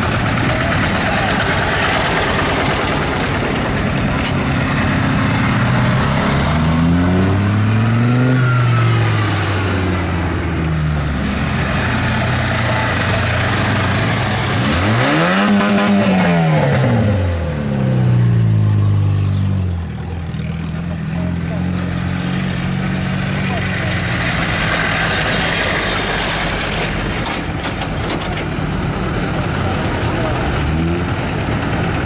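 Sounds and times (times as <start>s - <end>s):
tractor engine revving: 0.0s - 32.0s.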